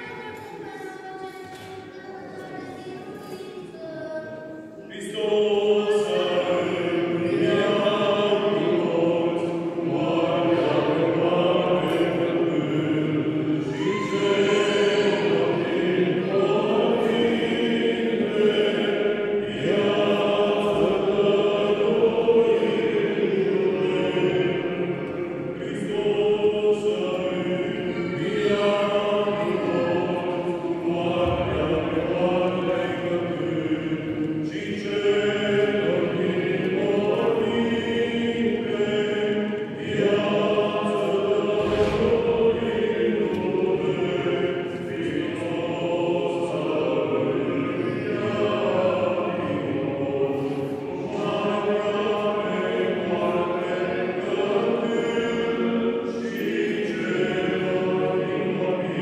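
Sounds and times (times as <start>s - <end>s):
choir chanting: 0.0s - 59.0s.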